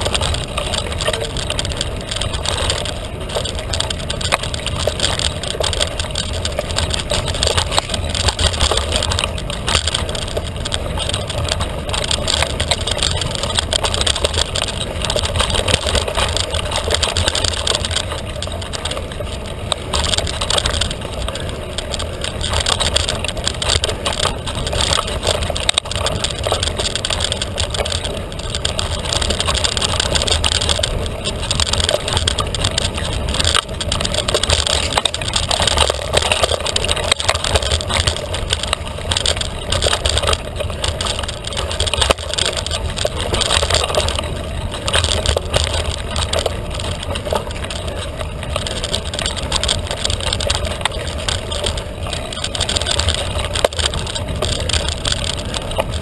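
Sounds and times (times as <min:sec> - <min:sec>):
bike rattles and knocks: 0:00.0 - 0:56.0
mountain bike rushing on dirt: 0:00.0 - 0:56.0.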